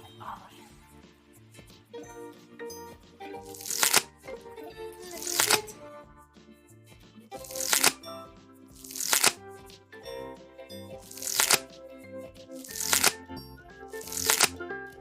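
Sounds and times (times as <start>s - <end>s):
music with held notes: 0.0s - 15.0s.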